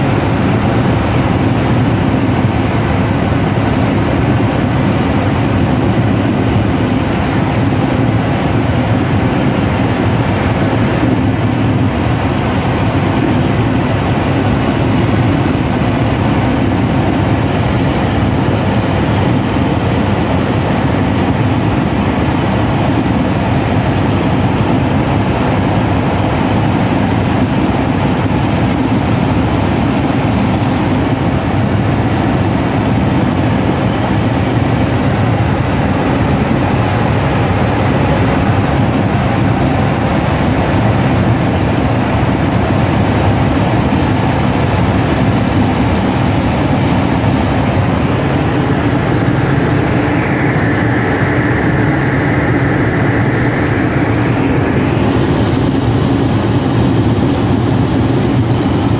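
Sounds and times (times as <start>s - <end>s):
helicopter engine and rotor noise: 0.0s - 58.9s.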